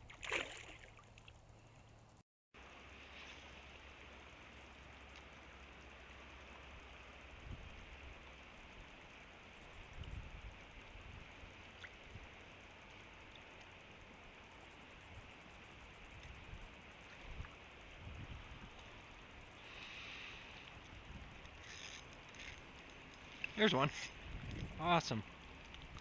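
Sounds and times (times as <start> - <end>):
faint outdoor hiss: 0.0 - 26.0.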